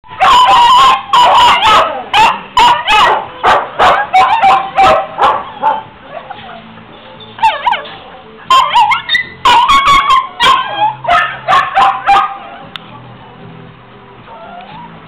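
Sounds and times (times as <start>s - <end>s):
dogs barking and yelping: 0.1s - 12.7s, 14.3s - 15.0s.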